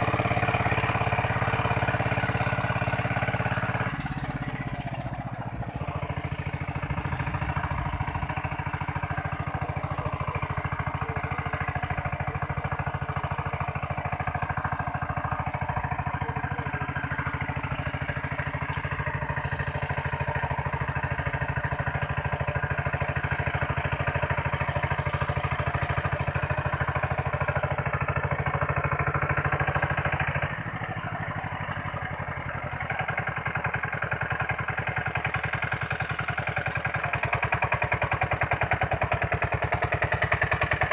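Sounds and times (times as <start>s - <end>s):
tiller engine chugging: 0.0s - 40.9s.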